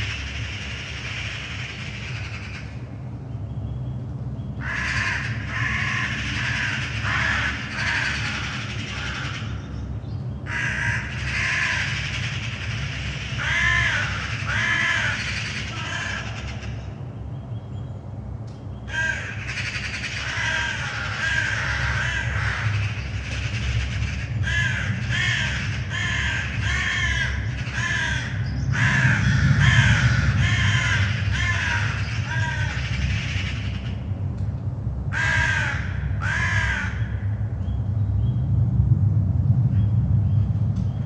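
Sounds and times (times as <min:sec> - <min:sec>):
crows cawing: 0:00.0 - 0:02.9, 0:04.6 - 0:17.0, 0:18.9 - 0:34.1, 0:35.1 - 0:37.5
aircraft engines rumbling: 0:00.0 - 0:41.0.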